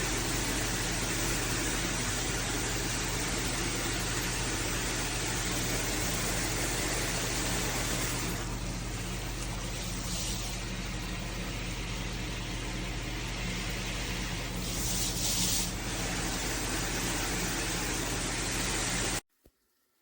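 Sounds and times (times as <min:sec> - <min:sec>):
shower head spraying water: 0:00.0 - 0:10.7, 0:13.5 - 0:19.2.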